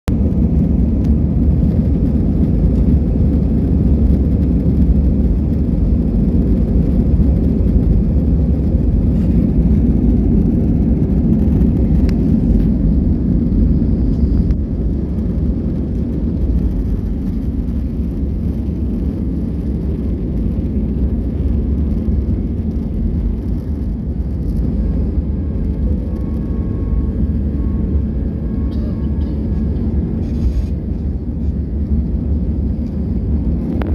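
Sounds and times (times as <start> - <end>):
jet engines rumbling on takeoff: 0.1 - 33.9.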